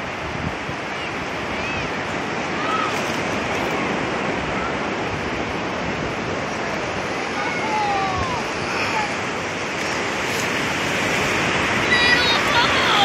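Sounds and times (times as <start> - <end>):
ocean surf washing up: 0.0 - 13.0.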